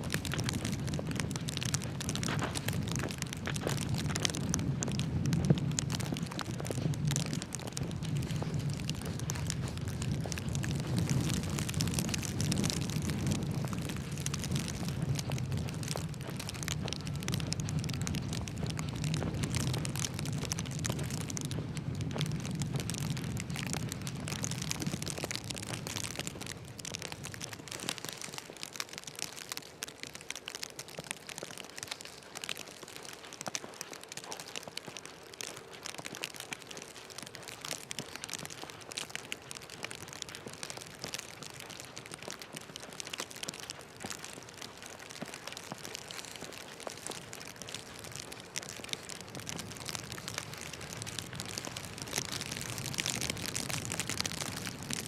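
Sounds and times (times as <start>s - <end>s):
rain on hard surfaces: 0.0s - 55.0s.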